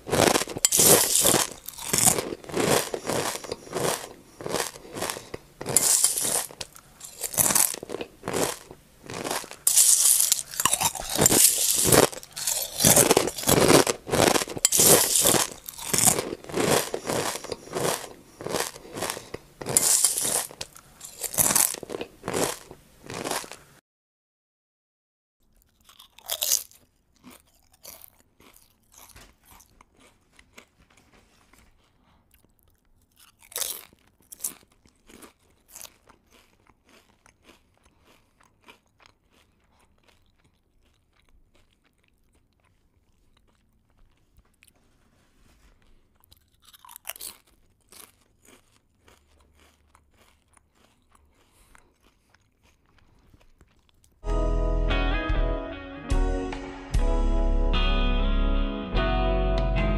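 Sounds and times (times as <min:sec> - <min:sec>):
person chewing crunchy food: 0:00.0 - 0:23.8, 0:25.4 - 0:54.3.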